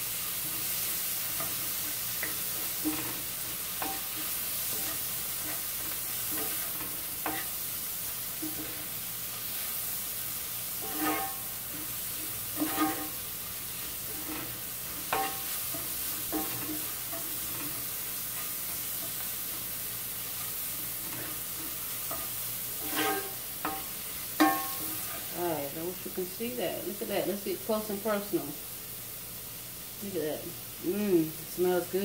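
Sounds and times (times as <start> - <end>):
onions sizzling in a skillet: 0.0 - 32.0
wooden spoon scraping a pan: 0.2 - 25.8.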